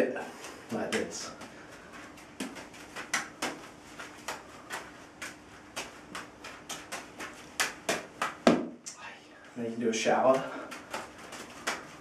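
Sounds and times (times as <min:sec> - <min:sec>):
juggling balls slapping hands: 0:00.1 - 0:09.0, 0:10.0 - 0:12.0.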